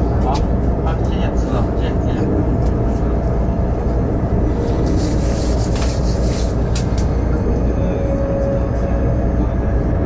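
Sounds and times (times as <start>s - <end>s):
train rumbling inside carriage: 0.0s - 10.0s.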